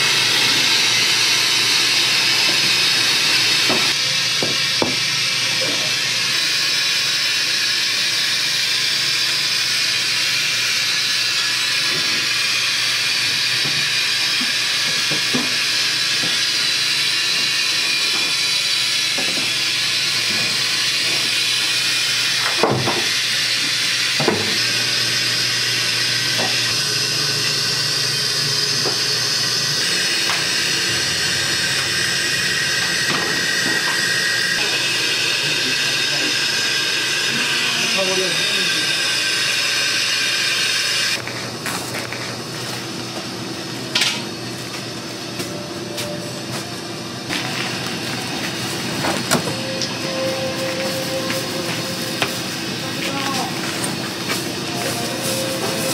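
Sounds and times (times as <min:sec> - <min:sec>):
steam hissing: 0:00.0 - 0:42.0, 0:45.3 - 0:55.9.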